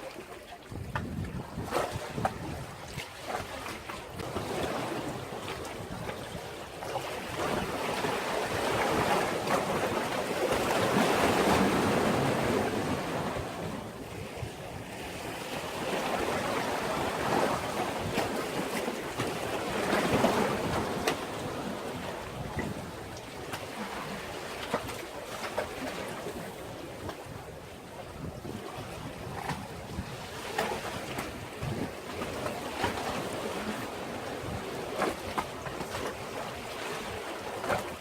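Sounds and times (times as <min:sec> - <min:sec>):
sea waves against a breakwater: 0:00.0 - 0:38.0.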